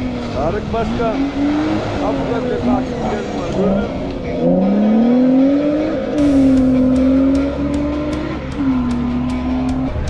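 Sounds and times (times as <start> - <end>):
engine accelerating and shifting gears: 0.0 - 10.0.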